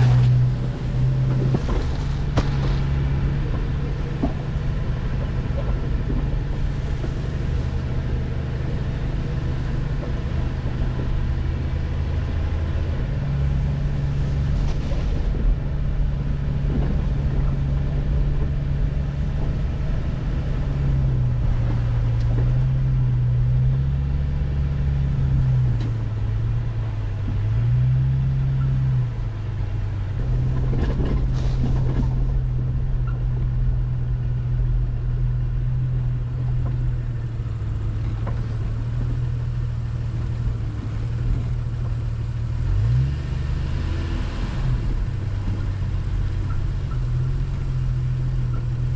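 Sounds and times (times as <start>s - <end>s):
car engine humming: 0.0s - 48.9s.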